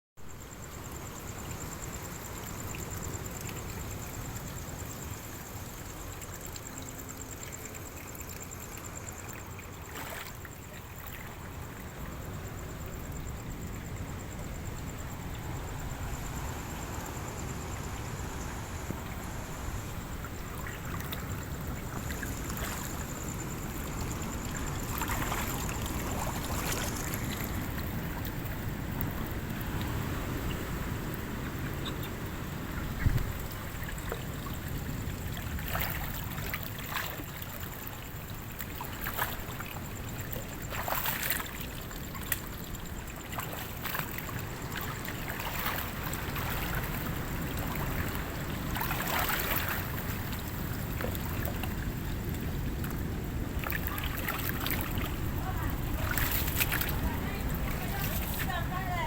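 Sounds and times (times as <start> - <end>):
wind: 0.0 - 59.0
sea waves breaking: 5.9 - 59.0.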